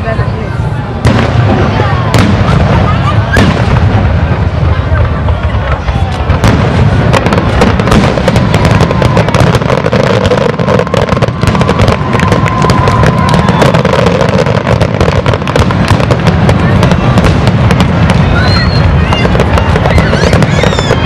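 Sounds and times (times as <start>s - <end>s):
fireworks booming and crackling: 0.0s - 21.0s.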